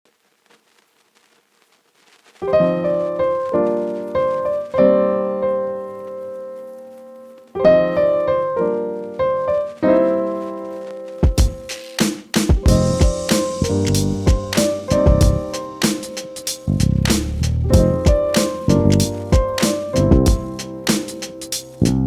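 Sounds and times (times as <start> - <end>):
piano chords: 2.4 - 22.0.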